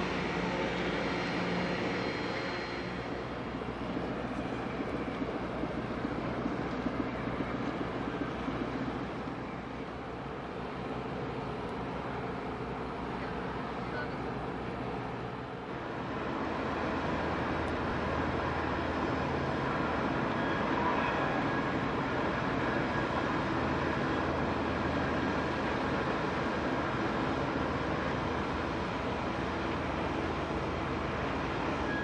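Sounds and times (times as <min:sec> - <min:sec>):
ferry diesel engines rumbling: 0:00.0 - 0:32.0.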